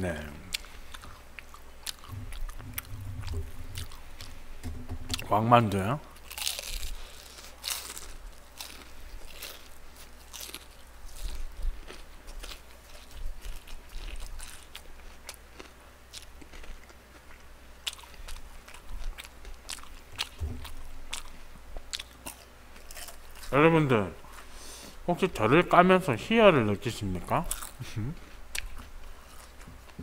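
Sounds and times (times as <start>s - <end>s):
chewing crispy fried chicken: 0.5s - 4.4s, 6.0s - 23.6s, 27.3s - 30.0s.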